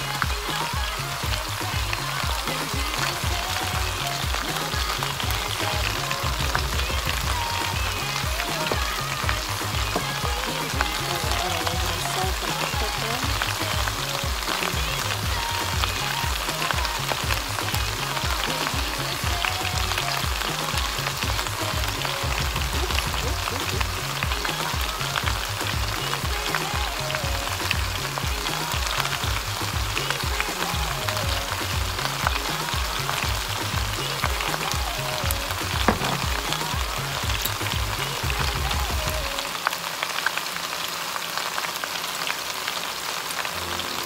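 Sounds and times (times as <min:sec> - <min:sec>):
background music with bass line: 0:00.0 - 0:39.4
vegetables sizzling in oil: 0:00.0 - 0:44.0.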